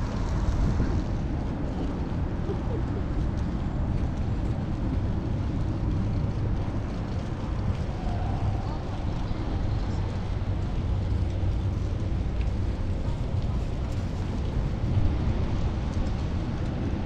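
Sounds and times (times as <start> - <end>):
street traffic: 0.0 - 17.0
wind rumble on camera: 0.0 - 17.0.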